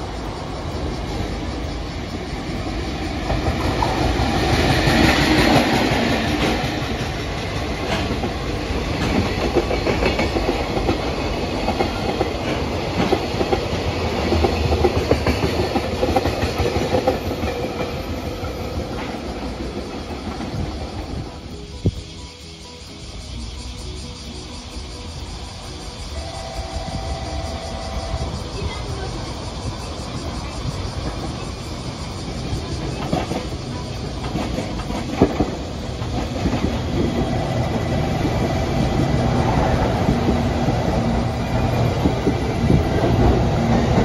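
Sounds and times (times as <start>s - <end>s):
train wheels clattering on rails: 0.0s - 44.0s.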